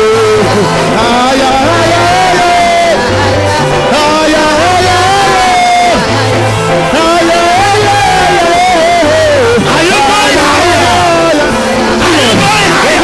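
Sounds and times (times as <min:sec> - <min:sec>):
gospel band with bass line: 0:00.0 - 0:13.0
person singing long held notes: 0:00.0 - 0:13.0.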